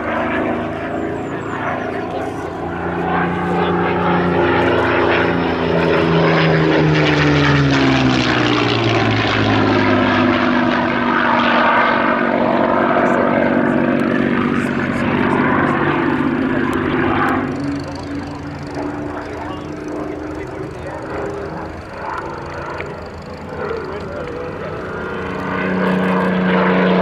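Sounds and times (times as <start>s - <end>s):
propeller plane engine passing: 0.0s - 27.0s.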